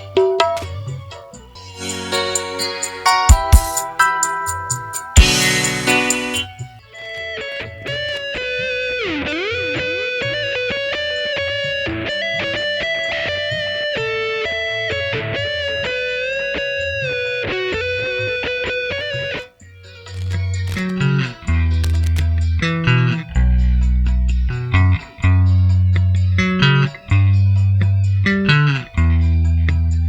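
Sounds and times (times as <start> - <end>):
electric guitar slow melody: 0.0 - 19.4, 22.5 - 30.0.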